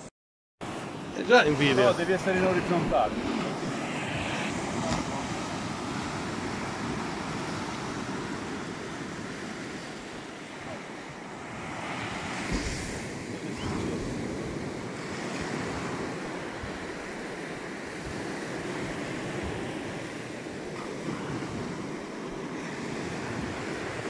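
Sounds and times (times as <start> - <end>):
surf washing up a beach: 0.6 - 24.0
wind rumbling on microphone: 0.6 - 24.0.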